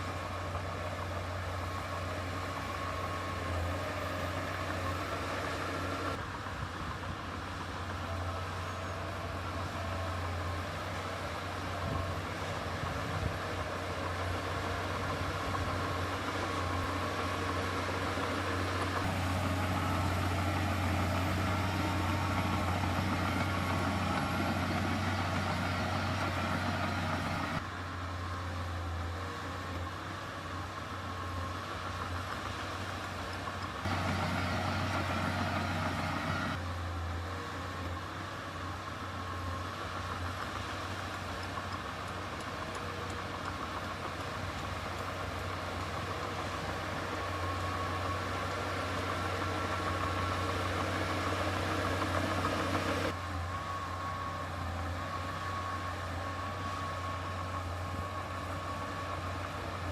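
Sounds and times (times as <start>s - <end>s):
earthmoving machine engine hum: 0.0s - 59.9s.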